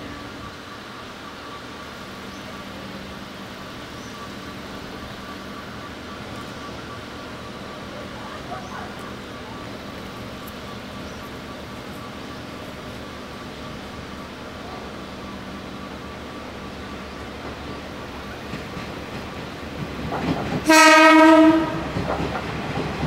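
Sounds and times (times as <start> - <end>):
diesel railcar idling: 0.0 - 23.0.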